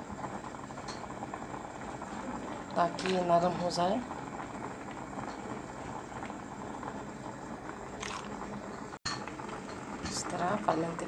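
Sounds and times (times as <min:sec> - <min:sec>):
pot of soup boiling: 0:00.0 - 0:11.0.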